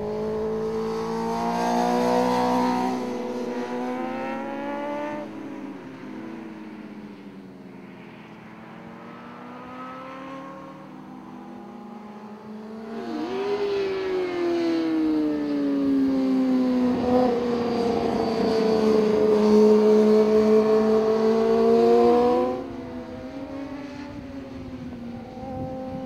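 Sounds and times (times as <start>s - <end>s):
racing motorcycle engines at high revs: 0.0s - 6.1s, 9.0s - 26.0s.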